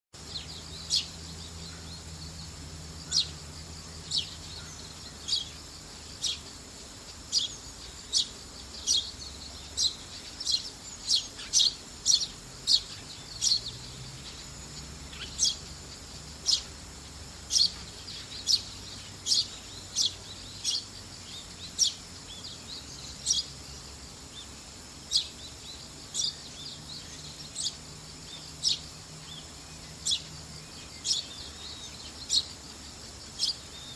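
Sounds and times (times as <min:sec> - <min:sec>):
sparrow chirping: 0:00.2 - 0:33.9.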